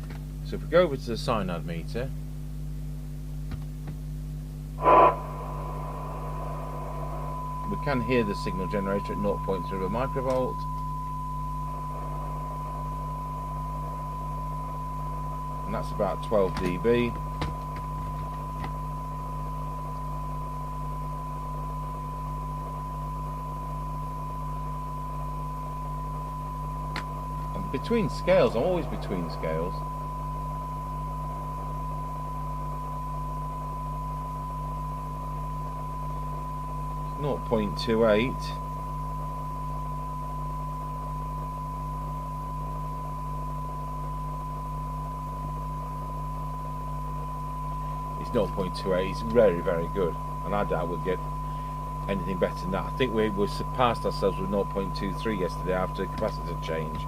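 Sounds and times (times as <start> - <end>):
receiver hiss: 0.0 - 57.0
low hum: 1.5 - 57.0
steady test tone from radio speaker: 4.0 - 57.0.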